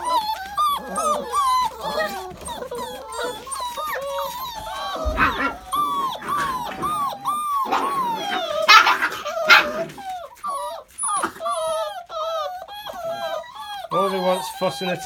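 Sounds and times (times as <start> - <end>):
puppies whining and yipping: 0.0 - 15.0
puppies yelping: 0.0 - 15.0.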